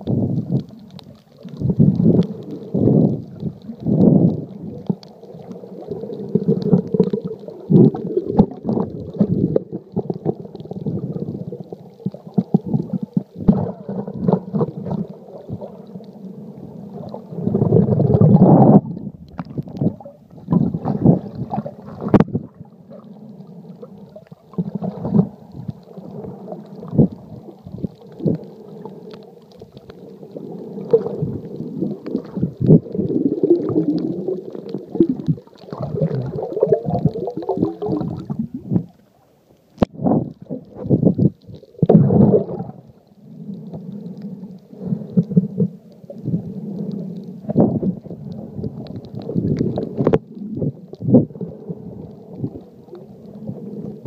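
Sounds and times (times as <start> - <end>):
muffled underwater churning: 0.0 - 54.0.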